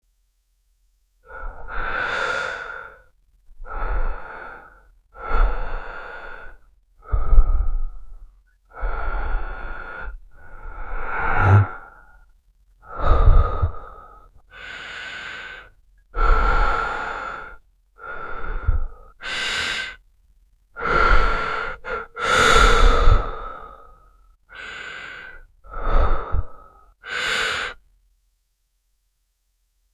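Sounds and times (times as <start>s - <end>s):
man breathing: 1.2s - 12.2s, 12.8s - 20.0s, 20.8s - 27.8s.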